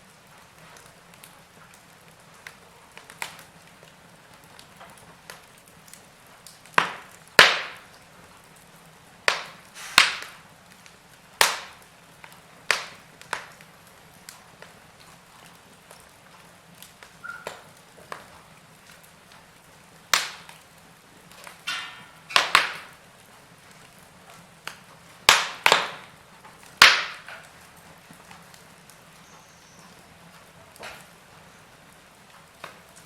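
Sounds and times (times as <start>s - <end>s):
logs crackling and popping: 0.0s - 33.0s.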